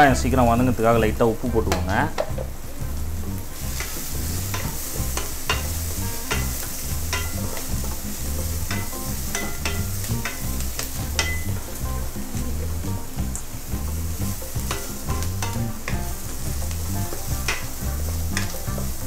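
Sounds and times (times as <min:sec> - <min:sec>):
onions sizzling in hot oil: 0:00.0 - 0:19.0
spatula scraping pan: 0:01.0 - 0:19.0.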